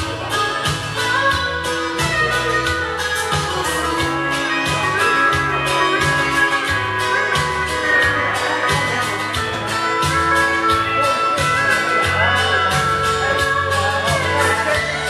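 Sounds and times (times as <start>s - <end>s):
bass: 0.0s - 15.0s
guitar lead: 0.0s - 15.0s
steady drum beat: 0.0s - 15.0s.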